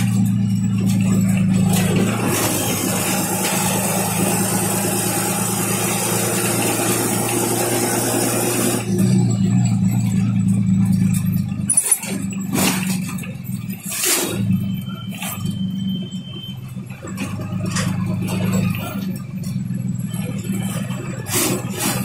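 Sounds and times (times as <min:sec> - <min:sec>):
bus diesel engine running: 0:00.0 - 0:22.0
road noise: 0:00.0 - 0:22.0.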